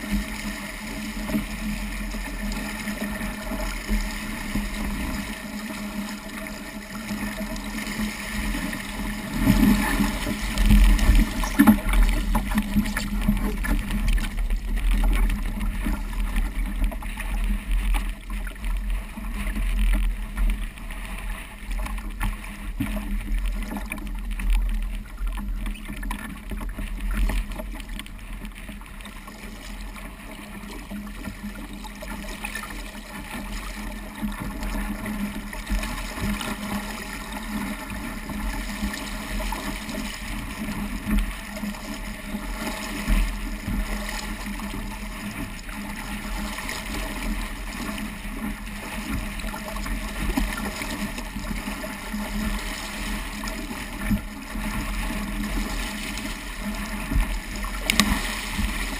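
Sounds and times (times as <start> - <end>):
water splashing along hull: 0.0 - 58.9
wind rumble on microphone: 0.0 - 58.9.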